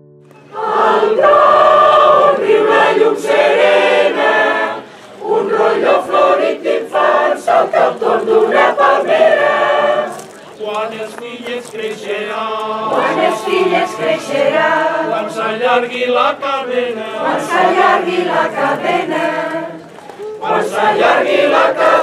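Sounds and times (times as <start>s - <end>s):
mixed choir singing: 0.4s - 22.0s.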